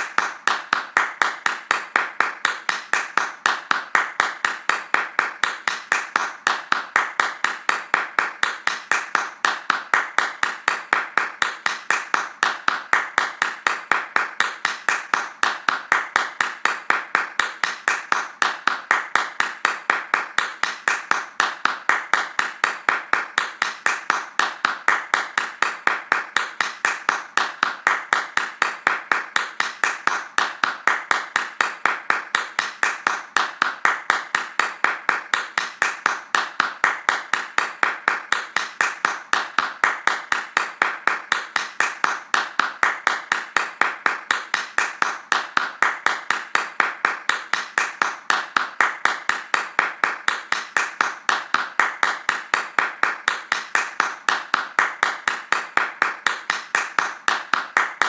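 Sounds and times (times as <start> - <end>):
hands clapping fast: 0.0 - 58.0.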